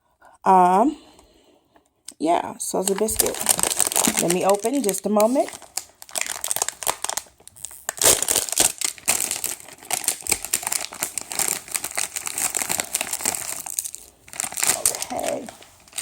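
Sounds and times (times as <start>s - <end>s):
plastic wrapper crinkling: 2.7s - 16.0s
wrapper ripping: 2.8s - 16.0s.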